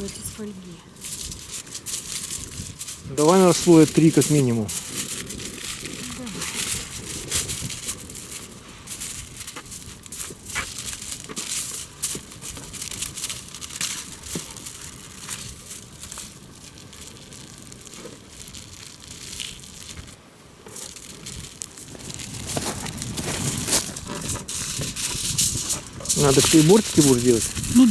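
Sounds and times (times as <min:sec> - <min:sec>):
aluminium foil crinkling: 0:00.0 - 0:27.9.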